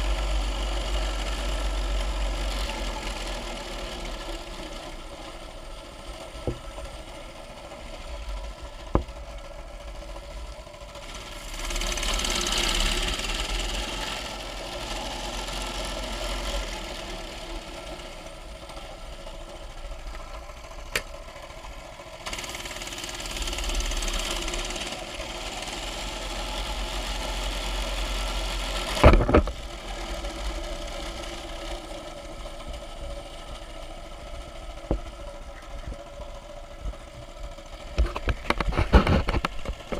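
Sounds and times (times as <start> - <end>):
small bike engine running: 0.0 - 39.9.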